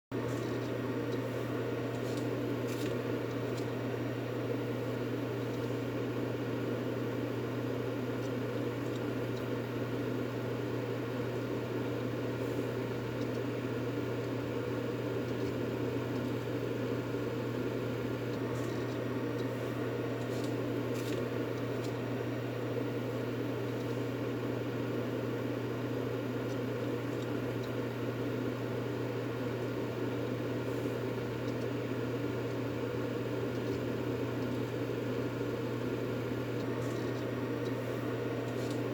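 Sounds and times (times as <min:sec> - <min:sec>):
deep steady hum: 0:00.1 - 0:38.9.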